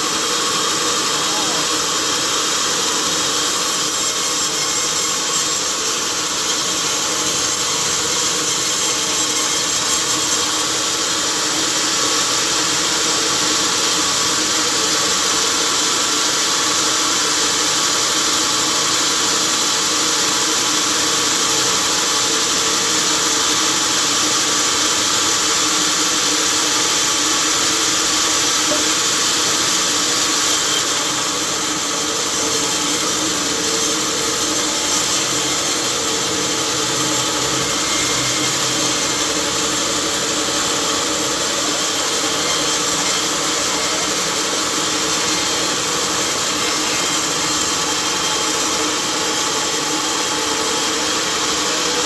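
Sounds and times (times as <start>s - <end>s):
sawmill machinery running: 0.0s - 52.0s.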